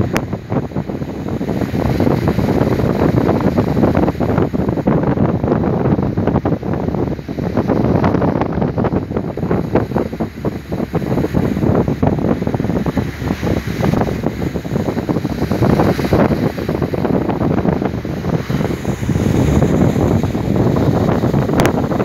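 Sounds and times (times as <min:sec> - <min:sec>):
rough sea breaking against hull: 0:00.0 - 0:22.0
wind buffeting microphone: 0:00.0 - 0:22.0.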